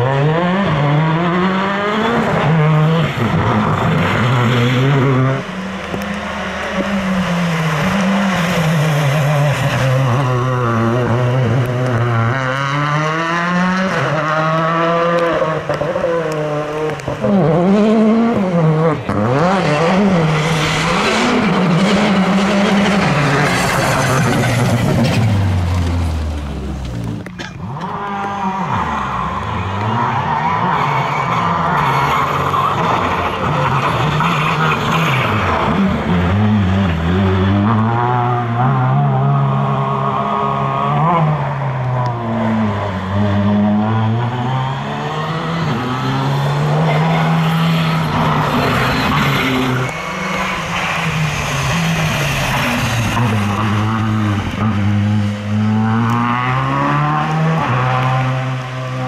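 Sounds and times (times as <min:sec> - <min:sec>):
rally car engine revving hard: 0:00.0 - 0:59.0.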